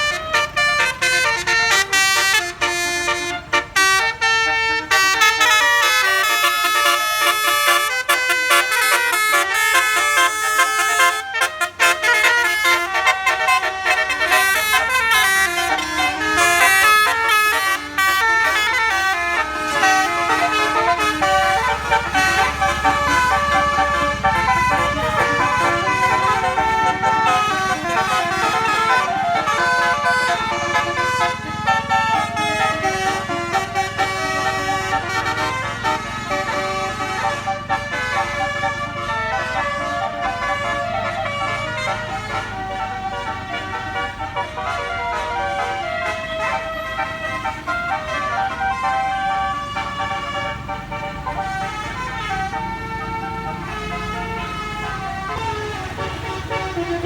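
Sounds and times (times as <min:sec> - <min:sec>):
bus engine running: 0:00.0 - 0:57.0
multi-tone air horn tune: 0:00.0 - 0:57.0.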